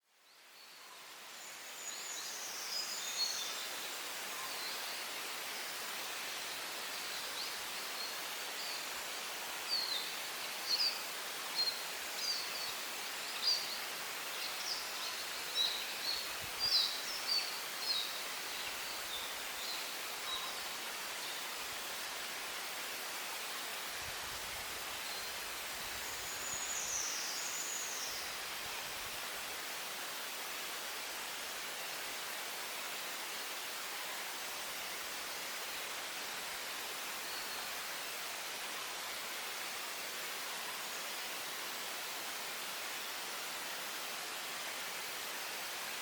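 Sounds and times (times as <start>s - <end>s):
wind hissing through pine trees: 0.0s - 46.0s.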